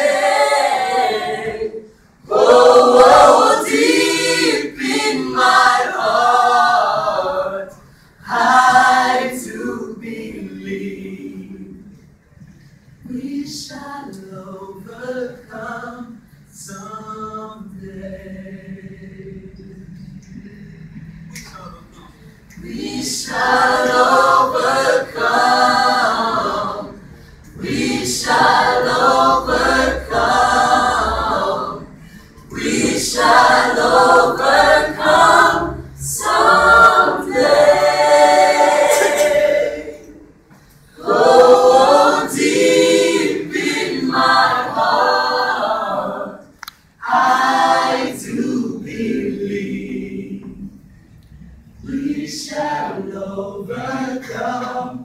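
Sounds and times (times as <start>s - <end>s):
choir singing a cappella: 0.0s - 12.2s, 12.9s - 55.0s.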